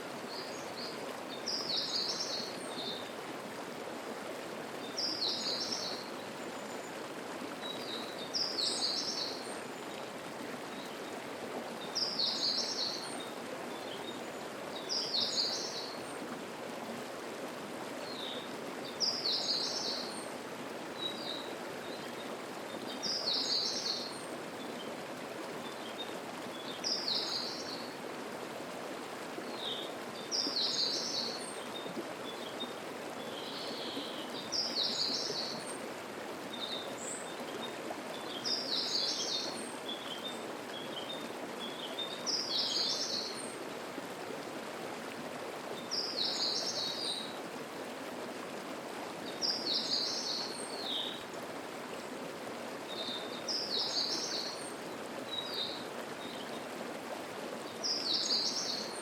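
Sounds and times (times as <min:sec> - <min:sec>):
rushing mountain stream: 0:00.0 - 0:59.0.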